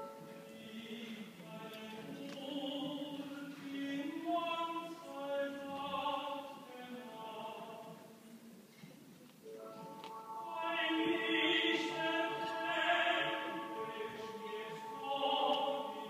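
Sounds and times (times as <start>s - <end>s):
man singing operatically: 0.3s - 7.9s, 10.4s - 16.0s.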